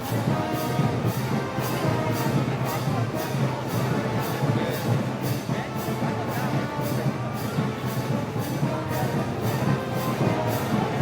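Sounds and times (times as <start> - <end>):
brass band playing a march: 0.0 - 11.0.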